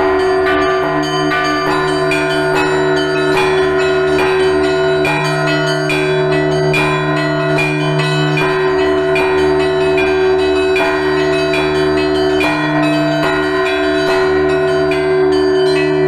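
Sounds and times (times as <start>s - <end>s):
hum of large bells: 0.0s - 16.0s
small church bells struck: 0.0s - 16.0s.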